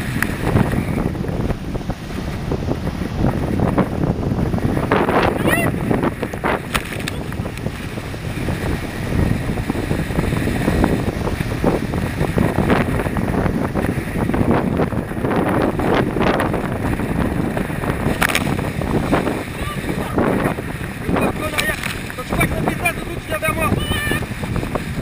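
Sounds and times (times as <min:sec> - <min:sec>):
rushing water and splashes: 0:00.0 - 0:25.0
wind buffeting microphone: 0:00.0 - 0:25.0.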